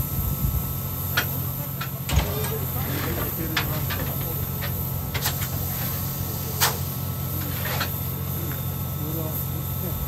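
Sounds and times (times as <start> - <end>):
low mechanical train hum: 0.0 - 10.0.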